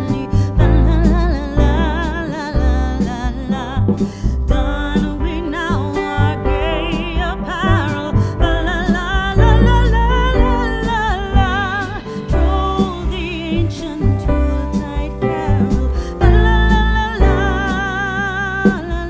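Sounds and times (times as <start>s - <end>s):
song with singer guitar and bass: 0.0s - 19.0s.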